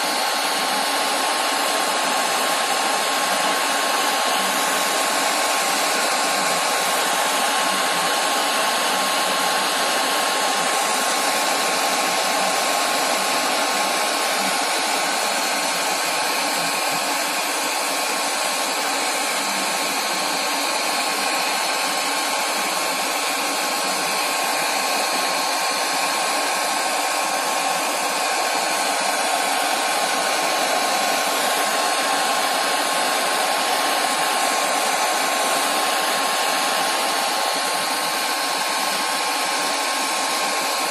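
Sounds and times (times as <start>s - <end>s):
hair dryer blowing air: 0.0s - 40.9s.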